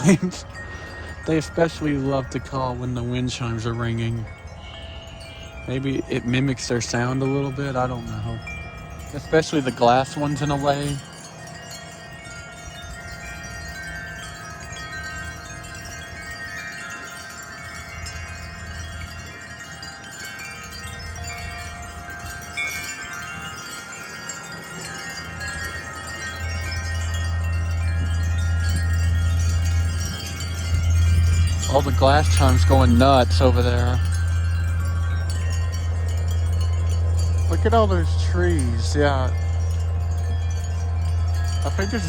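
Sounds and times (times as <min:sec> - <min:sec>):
wind chimes ringing: 0:00.0 - 0:42.0
wind rumble on microphone: 0:00.0 - 0:42.0.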